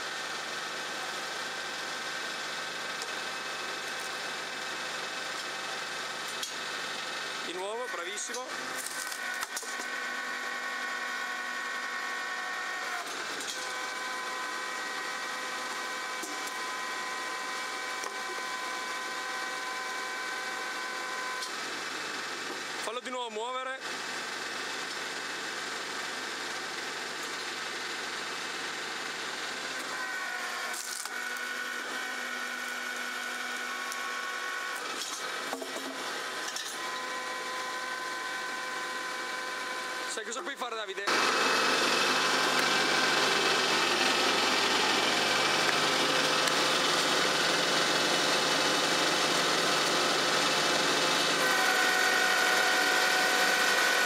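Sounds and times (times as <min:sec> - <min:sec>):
hydraulic pump mechanical whine: 0:00.0 - 0:23.0, 0:23.6 - 0:54.0
log splitter machine hum: 0:00.0 - 0:23.0, 0:23.8 - 0:54.0.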